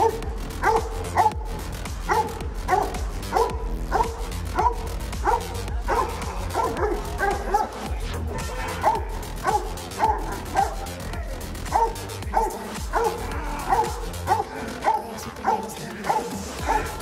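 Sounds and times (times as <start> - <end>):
dog barking: 0.0 - 17.0.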